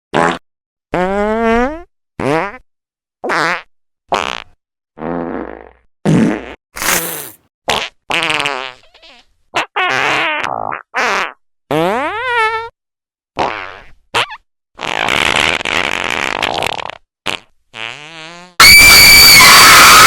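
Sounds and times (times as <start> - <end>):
cartoon fart sound effects: 0.1 - 2.6, 3.2 - 12.8, 13.4 - 20.0.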